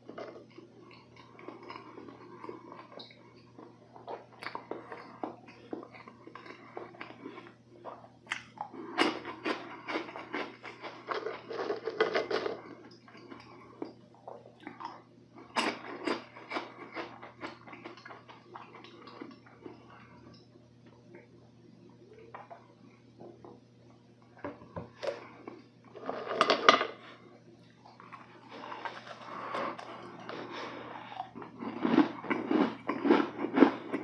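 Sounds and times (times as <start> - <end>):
chewing crunchy sweets: 0.0 - 21.3, 24.9 - 34.0.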